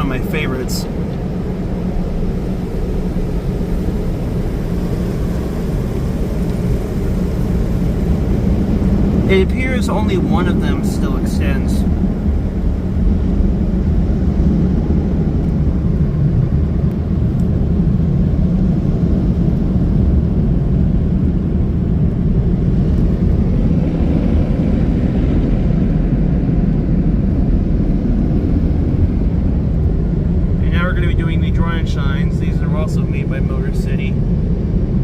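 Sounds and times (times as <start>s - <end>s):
car-wash dryers blowing air: 0.0s - 35.0s.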